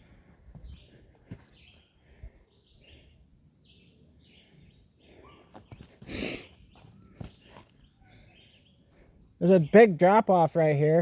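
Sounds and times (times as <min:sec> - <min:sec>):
bird chirping: 0:00.6 - 0:10.4.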